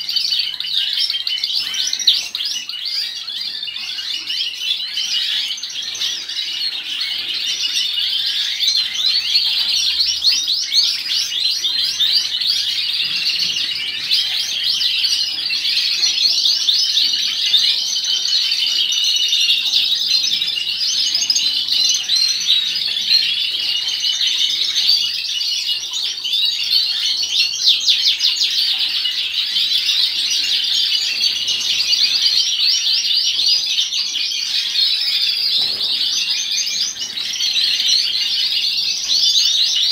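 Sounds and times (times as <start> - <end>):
canaries chirping and singing: 0.0 - 39.9.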